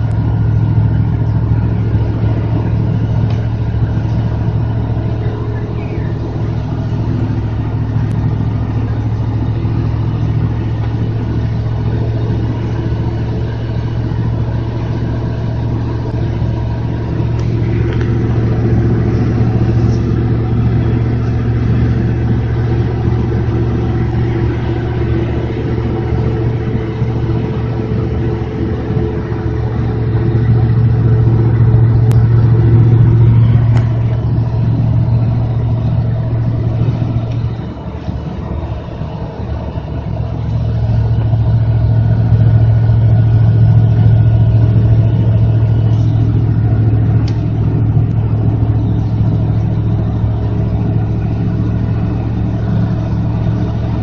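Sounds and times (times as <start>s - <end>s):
pickup engine drone in cab: 0.0s - 54.0s.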